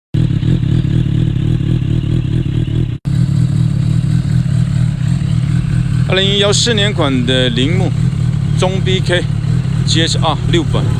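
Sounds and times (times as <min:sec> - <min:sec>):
motorcycle engine rumbling: 0:00.1 - 0:10.9.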